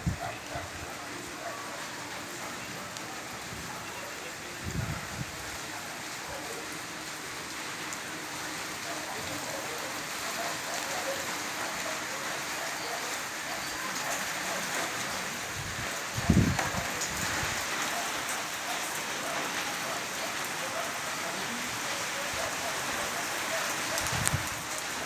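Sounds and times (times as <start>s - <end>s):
rain pattering on surfaces: 0.0s - 25.0s.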